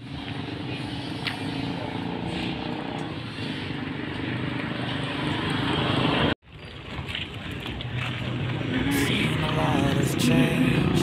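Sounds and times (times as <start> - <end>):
road traffic noise: 0.0 - 11.0
vehicle engine: 0.0 - 11.0.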